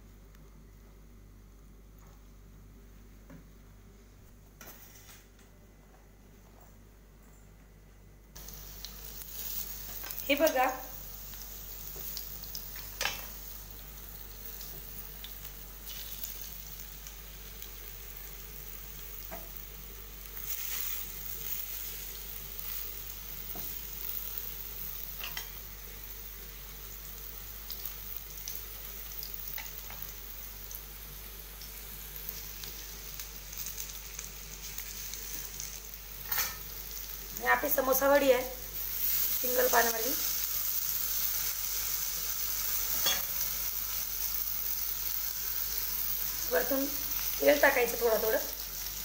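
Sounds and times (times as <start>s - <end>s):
food sizzling in a frying pan: 8.4s - 49.0s.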